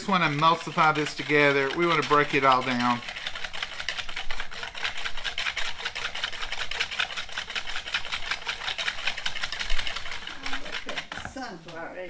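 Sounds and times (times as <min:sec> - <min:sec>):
fork whisking in plastic bowl: 0:00.0 - 0:12.0.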